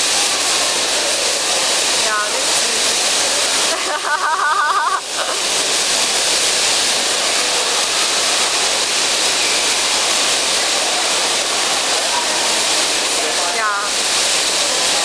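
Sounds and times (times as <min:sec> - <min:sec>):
hissing din of bumper cars: 0:00.0 - 0:15.0.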